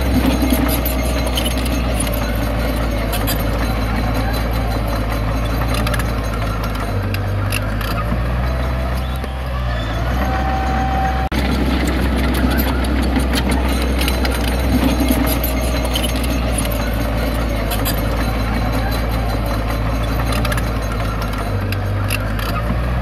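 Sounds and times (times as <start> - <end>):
clicks and rattles: 0.0 - 9.4, 11.2 - 23.0
heavy diesel engine running: 0.0 - 23.0.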